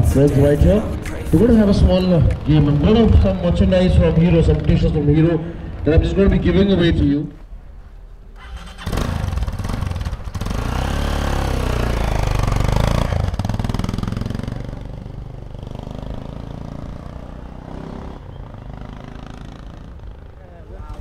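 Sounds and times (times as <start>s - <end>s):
motorcycle engine revving: 0.0s - 6.8s, 8.4s - 21.0s.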